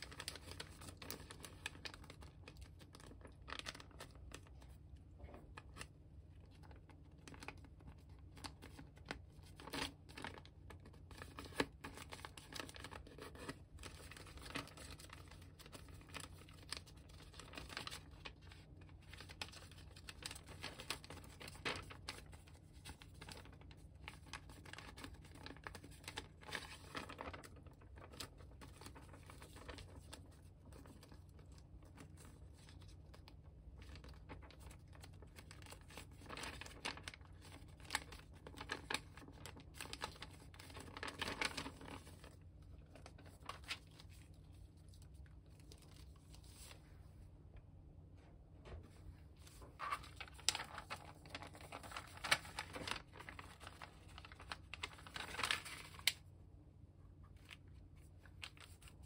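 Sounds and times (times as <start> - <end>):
paper crinkling and rustling: 0.0 - 47.2, 48.6 - 56.3, 57.1 - 59.0.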